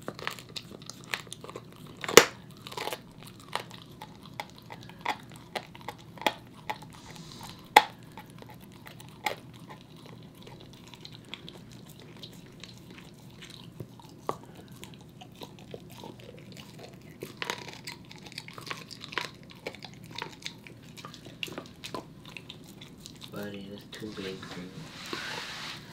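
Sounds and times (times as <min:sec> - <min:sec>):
teeth cracking on bone: 0:00.0 - 0:23.6
dog gnawing a bone: 0:00.0 - 0:24.8.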